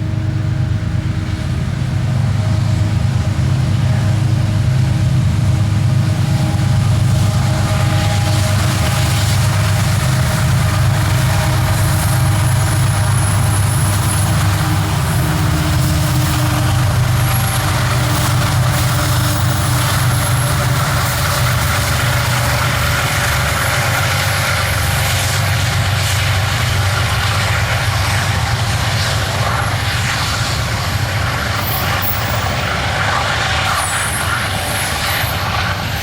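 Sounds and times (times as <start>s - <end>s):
locomotive engines droning: 0.0s - 36.0s
rail clicks: 0.0s - 36.0s
train wheels on rails: 0.0s - 36.0s.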